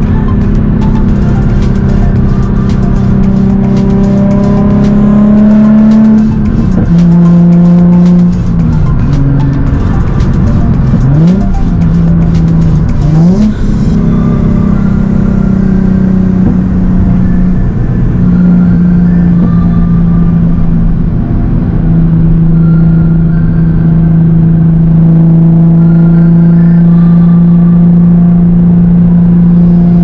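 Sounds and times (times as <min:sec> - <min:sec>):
car engine accelerating and droning: 0:00.0 - 0:30.0.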